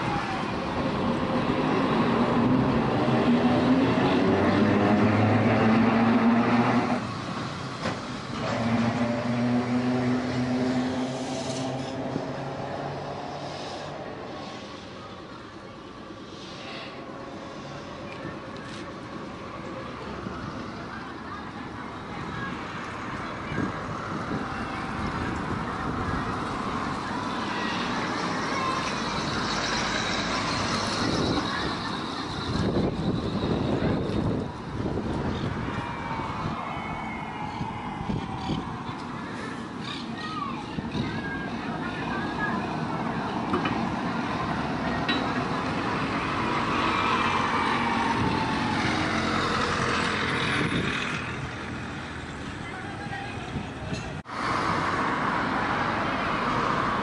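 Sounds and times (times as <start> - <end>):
vehicle passing by: 0.0 - 15.2, 16.2 - 57.0
street traffic noise: 0.0 - 57.0.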